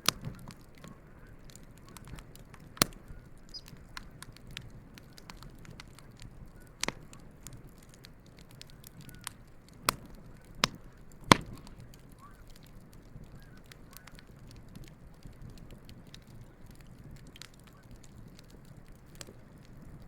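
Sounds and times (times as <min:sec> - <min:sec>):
campfire crackling: 0:00.0 - 0:20.0
low rumble of flame: 0:00.0 - 0:20.0
sharp fire pops: 0:00.0 - 0:20.0.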